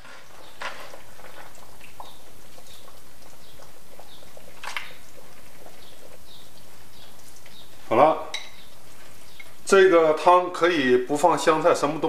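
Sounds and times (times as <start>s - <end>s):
stew simmering with bubbles popping: 0.0s - 12.0s.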